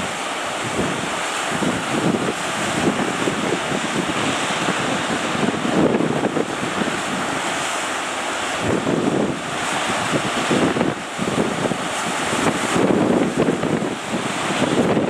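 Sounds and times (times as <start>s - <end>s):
surf breaking: 0.0s - 15.0s
wind buffeting microphone: 0.0s - 15.0s.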